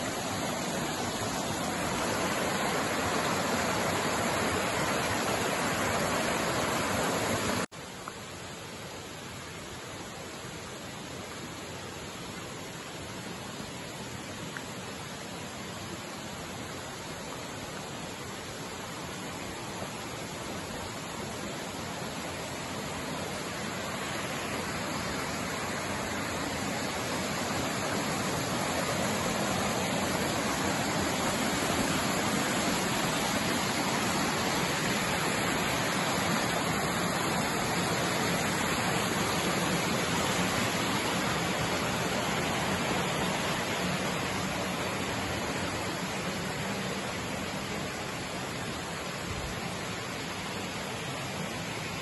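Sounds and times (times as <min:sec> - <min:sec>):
mountain stream rushing: 0:00.0 - 0:52.0.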